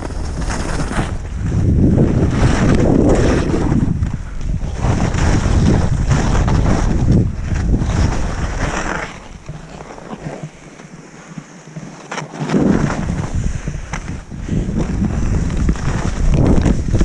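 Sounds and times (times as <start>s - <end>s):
wind buffeting microphone: 0.0s - 11.5s, 12.4s - 17.0s
skis running over snow: 0.0s - 17.0s.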